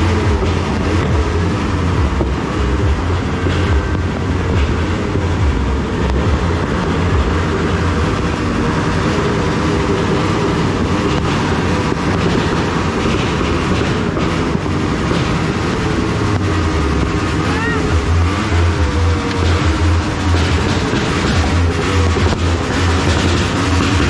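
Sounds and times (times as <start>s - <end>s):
fireworks rumbling: 0.0s - 24.0s.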